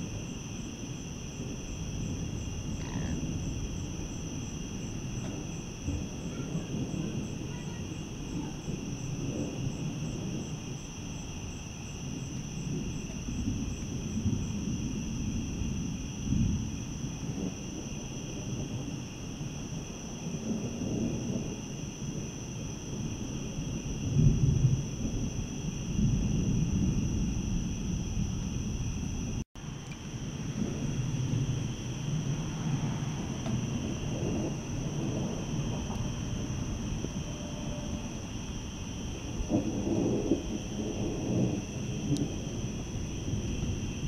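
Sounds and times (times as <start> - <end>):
distant thunder rumbling: 0.0 - 44.0.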